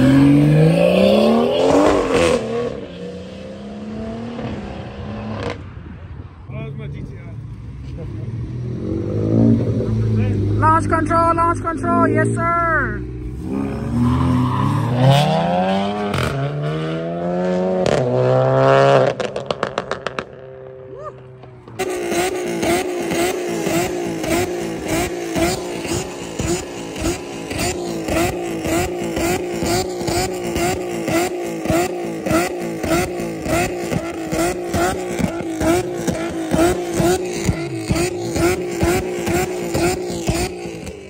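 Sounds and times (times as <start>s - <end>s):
car engine on rev limiter: 0.0s - 5.7s, 7.8s - 20.5s, 21.4s - 41.0s.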